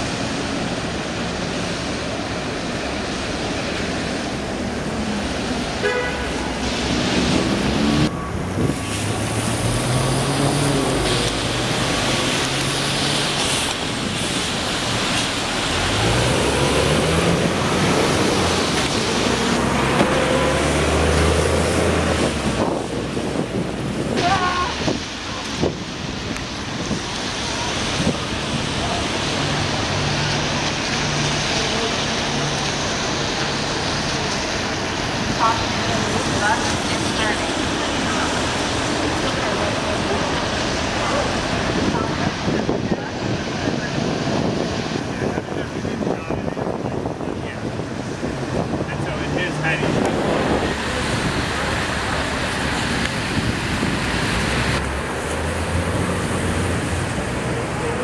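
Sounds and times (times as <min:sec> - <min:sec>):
bus engine low hum: 0:00.0 - 0:58.0
tyres hissing on wet road: 0:00.0 - 0:58.0.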